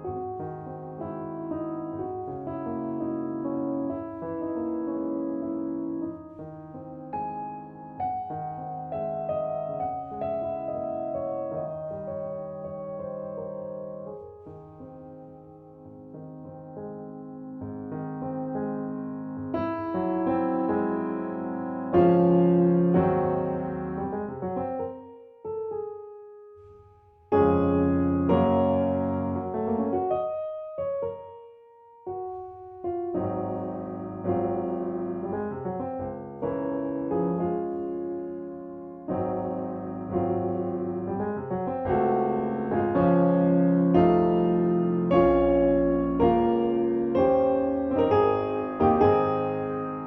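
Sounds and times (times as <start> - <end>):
solo piano chords: 0.0 - 50.0.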